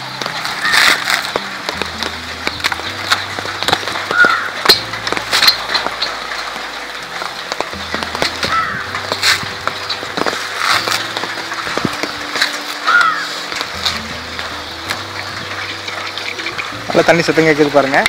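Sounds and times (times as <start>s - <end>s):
background music with low bass line: 0.0s - 18.0s
sharp cracks and snaps: 0.0s - 18.0s.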